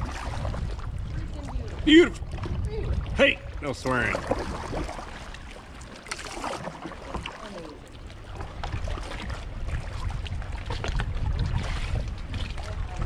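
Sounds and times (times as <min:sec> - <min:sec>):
paddle splashing and dripping: 0:00.0 - 0:13.0
water lapping against hull: 0:00.0 - 0:13.0.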